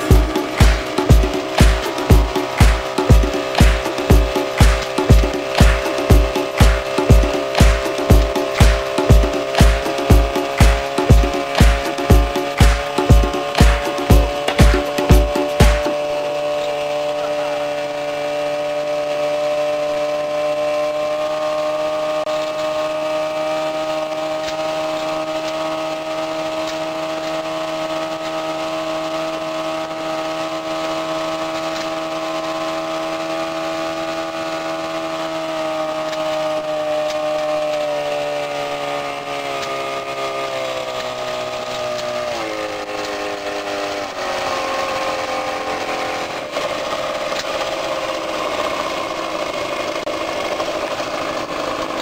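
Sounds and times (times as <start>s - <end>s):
motorboat engine running: 0.0s - 52.0s.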